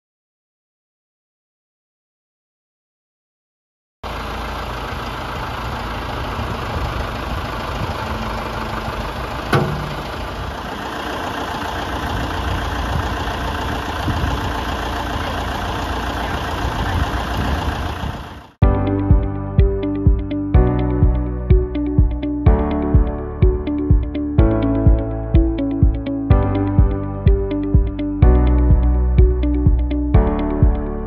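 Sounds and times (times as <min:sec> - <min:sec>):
vehicle engine running: 0:04.0 - 0:31.0.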